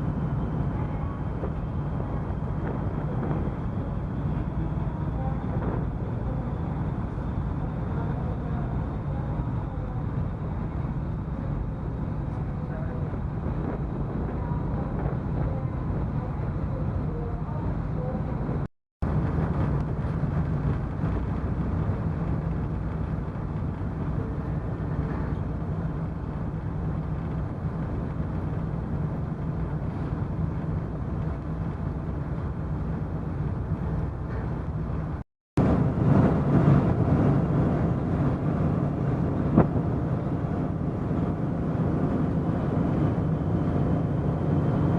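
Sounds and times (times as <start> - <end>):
ship engines droning: 0.0 - 44.9.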